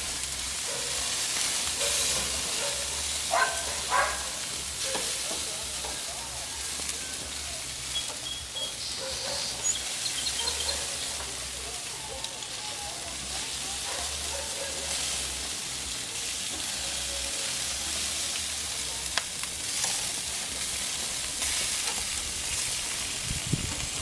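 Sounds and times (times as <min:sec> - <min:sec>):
meat sizzling on a grill: 0:00.0 - 0:24.0
tongs turning food: 0:00.9 - 0:22.8.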